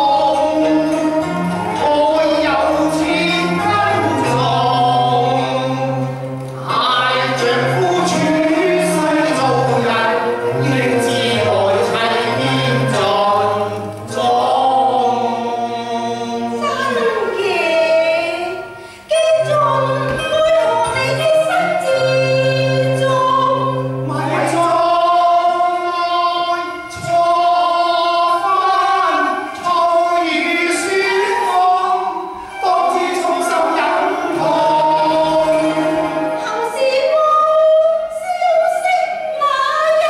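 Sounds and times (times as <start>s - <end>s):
mixed choir singing: 0.0s - 18.7s, 19.4s - 38.7s.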